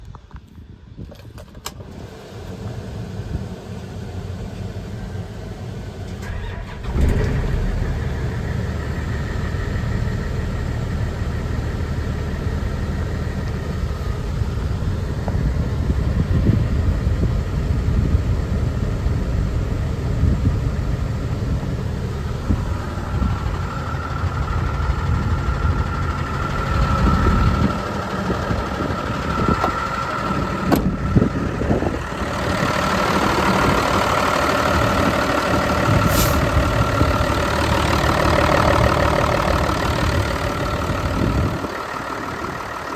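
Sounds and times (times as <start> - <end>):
diesel engine starting and running: 1.2 - 42.9
steady high whine: 7.8 - 42.9.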